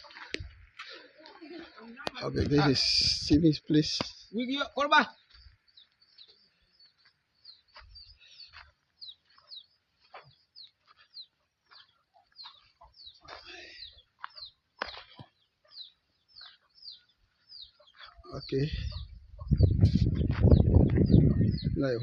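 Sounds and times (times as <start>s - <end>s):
chicks peeping: 2.5s - 22.0s.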